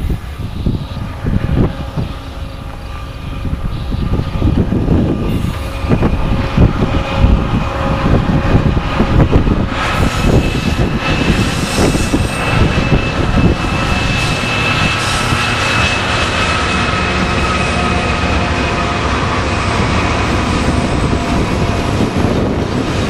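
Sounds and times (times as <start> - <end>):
diesel locomotives rumbling: 0.0 - 23.0
locomotive high whine: 0.0 - 23.0.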